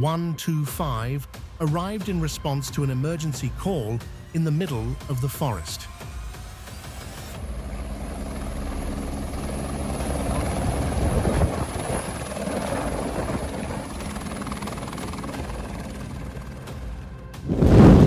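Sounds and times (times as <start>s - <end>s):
helicopter rotor beating: 0.8s - 17.6s.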